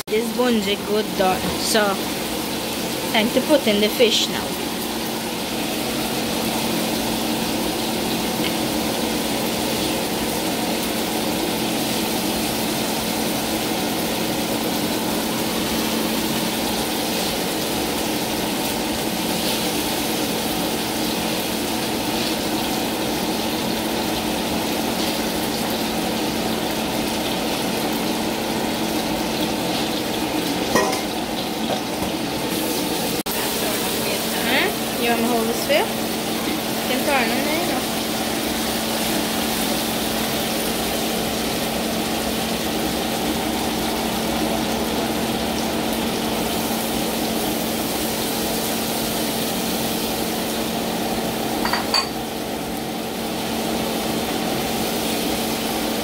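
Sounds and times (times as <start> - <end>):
sauce sizzling in a wok: 0.0 - 56.0.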